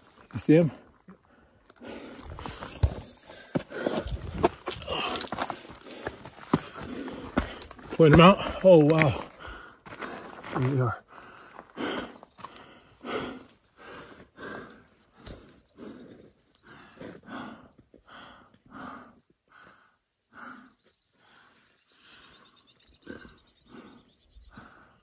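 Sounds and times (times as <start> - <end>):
person panting heavily: 1.2 - 25.0.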